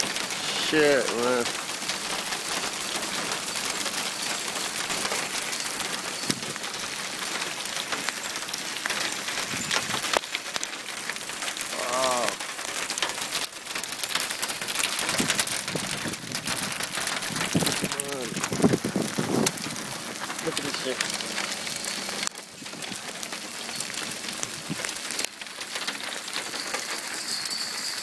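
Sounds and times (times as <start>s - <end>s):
hail and rain pelting down: 0.0s - 28.0s.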